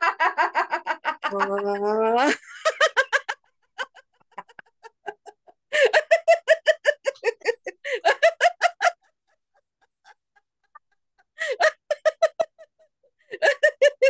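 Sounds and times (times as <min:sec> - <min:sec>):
woman laughing: 0:00.0 - 0:09.1, 0:10.0 - 0:12.7, 0:13.4 - 0:14.0.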